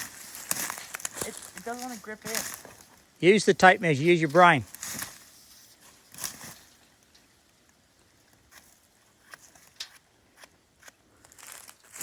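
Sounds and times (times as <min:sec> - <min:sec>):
footsteps on bark and twigs: 0:00.0 - 0:12.0.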